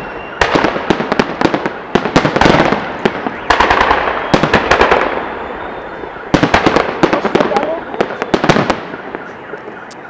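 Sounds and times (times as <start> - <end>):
fireworks bangs: 0.0 - 10.0
rolling echo: 0.0 - 10.0.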